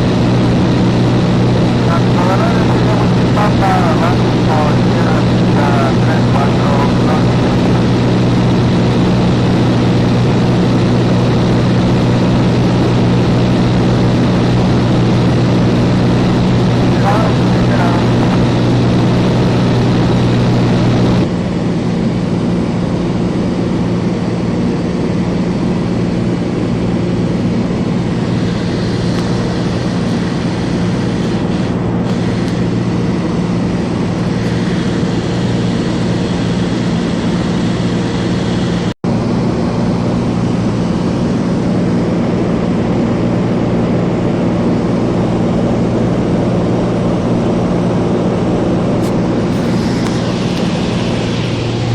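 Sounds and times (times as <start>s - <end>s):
propeller aircraft engine droning: 0.0s - 51.9s.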